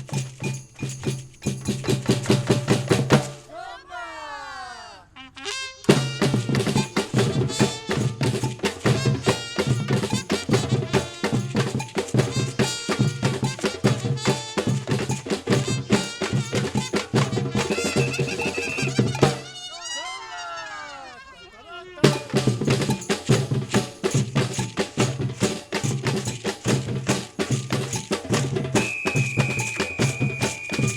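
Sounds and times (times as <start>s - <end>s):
percussion ensemble drumming: 0.0s - 3.6s, 5.9s - 19.6s, 22.0s - 30.9s.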